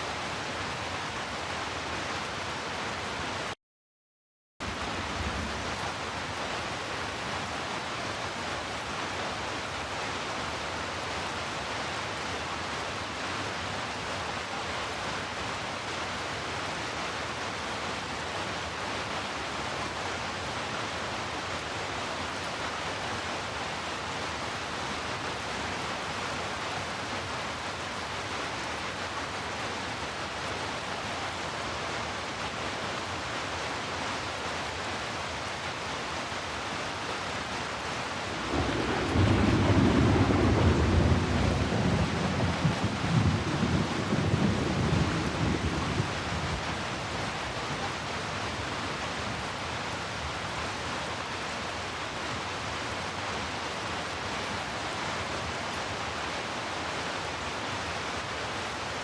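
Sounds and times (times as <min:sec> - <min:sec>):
heavy rainfall: 0:00.0 - 0:03.6, 0:04.6 - 0:59.0.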